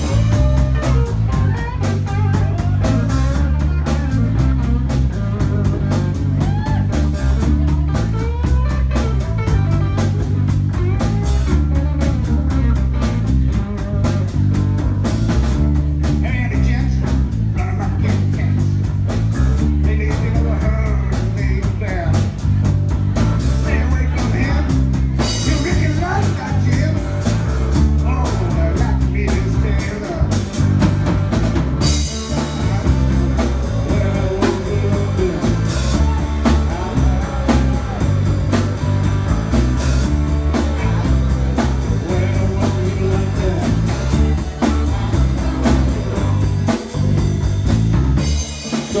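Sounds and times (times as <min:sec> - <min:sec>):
bass line: 0:00.0 - 0:49.0
drum kit: 0:00.0 - 0:49.0
electric guitar: 0:00.0 - 0:49.0.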